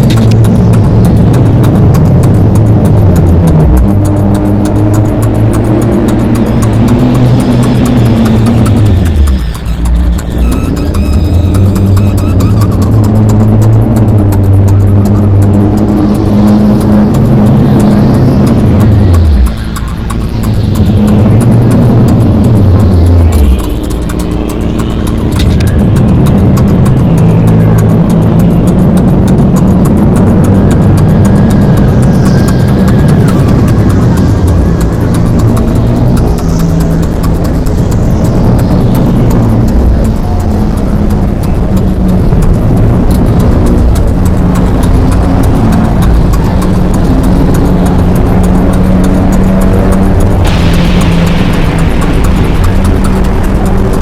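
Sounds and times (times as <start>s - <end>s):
distorted rumbling drone: 0.0s - 54.0s
held tones shifting pitch: 0.0s - 54.0s
rapid crackling clicks: 0.0s - 54.0s.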